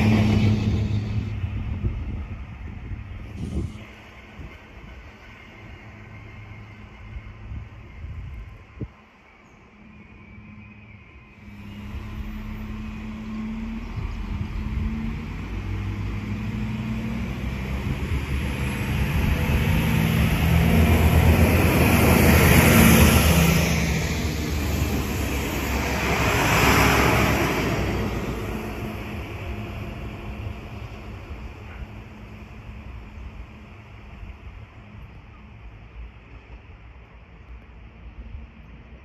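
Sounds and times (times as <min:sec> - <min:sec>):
diesel train engine drone: 0:00.0 - 0:39.0.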